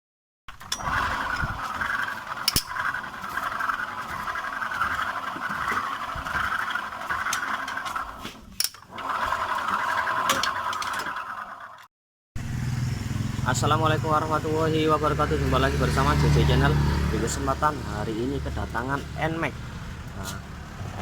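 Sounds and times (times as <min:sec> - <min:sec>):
scooter transmission grinding whir: 0:00.5 - 0:21.0.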